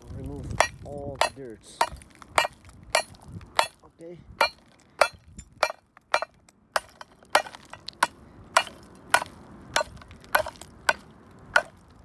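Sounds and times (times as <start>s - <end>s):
hammer striking concrete on steel: 0.5s - 3.8s, 4.4s - 11.8s.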